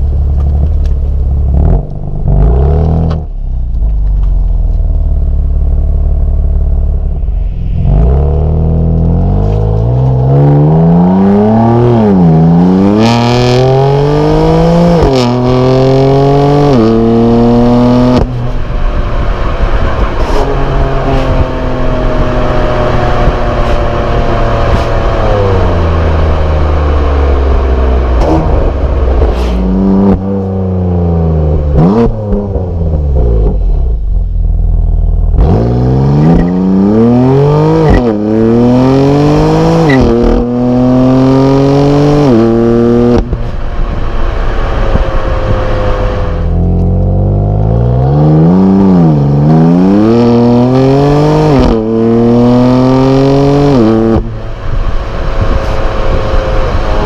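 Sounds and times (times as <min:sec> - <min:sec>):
car engine revving through upshifts: 0:07.2 - 0:34.0, 0:35.3 - 0:57.0.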